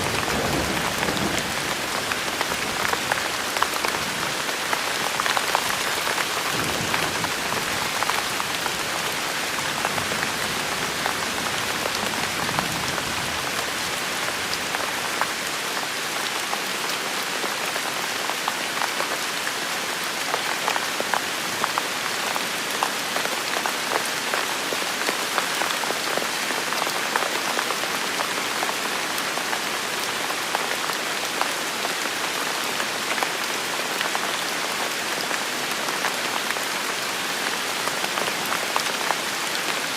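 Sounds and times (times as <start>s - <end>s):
rain drops ticking on hard surfaces: 0.0s - 39.9s.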